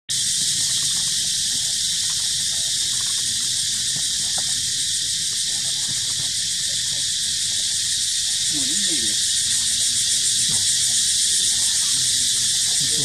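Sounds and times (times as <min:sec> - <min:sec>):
insect chorus drone: 0:00.1 - 0:13.0.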